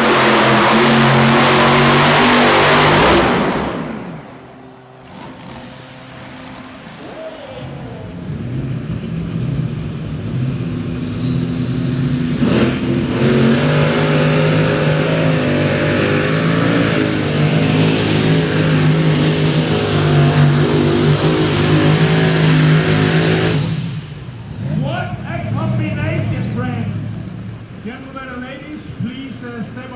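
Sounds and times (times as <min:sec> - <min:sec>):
tractor engine running flat out: 0:00.0 - 0:29.9.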